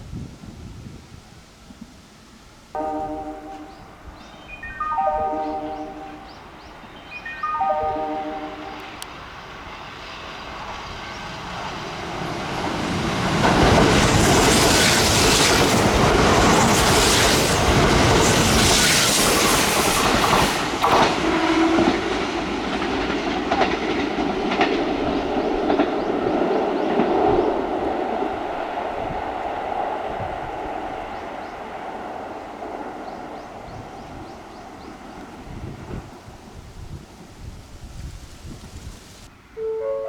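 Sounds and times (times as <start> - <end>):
electric train passing: 2.2 - 40.0.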